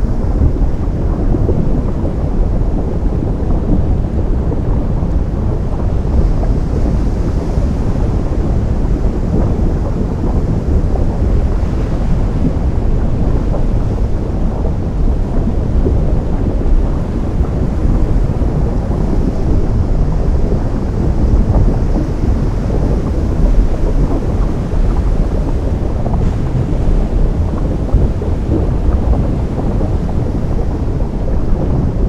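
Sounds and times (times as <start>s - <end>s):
ocean surf rumble: 0.0s - 32.0s.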